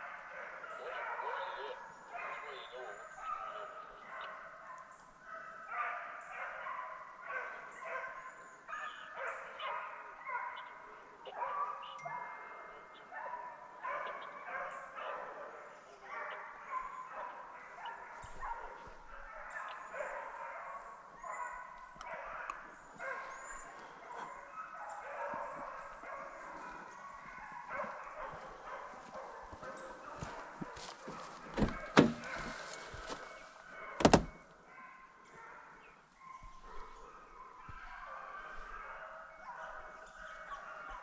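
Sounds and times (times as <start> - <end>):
hounds baying: 0.0 - 41.0.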